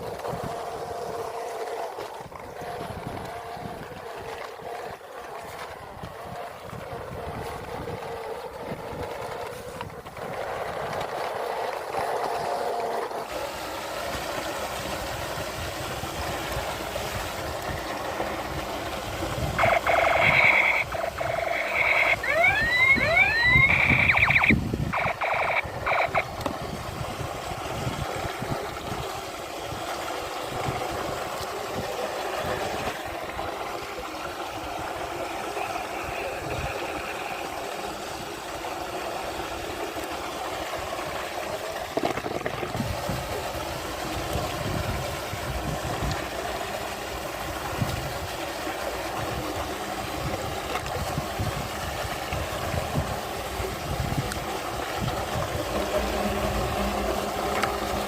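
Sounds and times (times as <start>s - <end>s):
churning water rushing: 0.0s - 58.0s
low uneven rumble: 0.0s - 58.0s.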